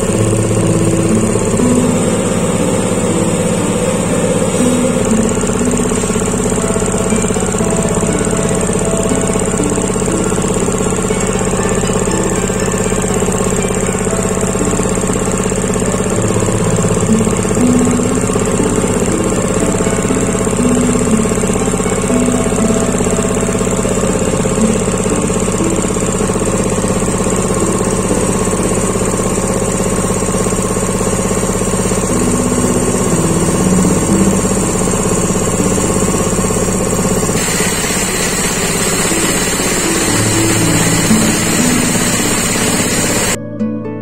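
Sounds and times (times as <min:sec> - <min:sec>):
air compressor running: 0:00.0 - 0:43.4.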